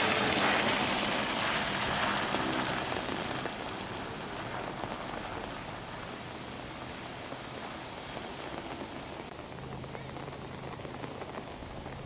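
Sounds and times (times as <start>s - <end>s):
car tyres on wet road: 0.0s - 12.0s
rain hiss: 0.0s - 12.0s.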